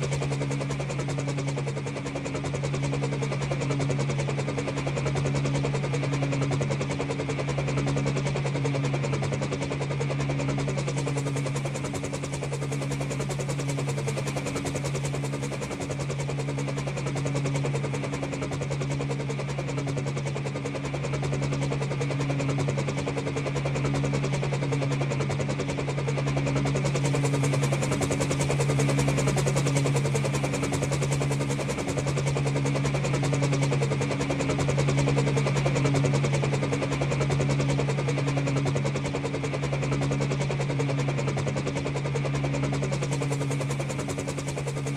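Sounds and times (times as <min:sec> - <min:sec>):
helicopter rotor blades beating: 0:00.0 - 0:44.9.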